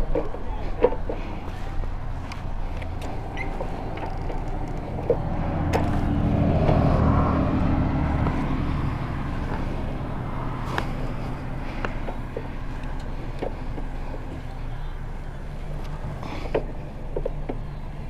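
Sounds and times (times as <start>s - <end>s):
motorcycle engine running: 1.5s - 18.0s.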